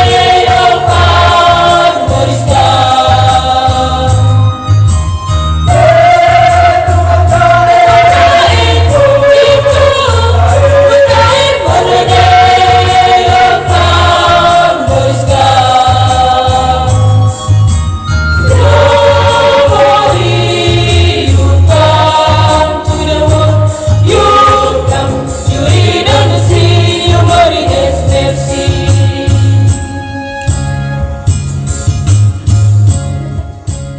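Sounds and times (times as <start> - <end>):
choir singing: 0.0 - 4.5, 5.7 - 17.4, 18.4 - 30.0
band accompaniment: 0.0 - 33.9
pulsing bass: 0.0 - 33.9.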